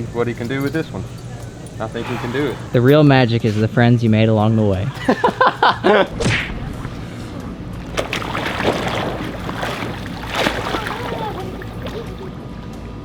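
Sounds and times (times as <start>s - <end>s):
pool water splashing: 0.0s - 3.8s, 4.8s - 12.5s.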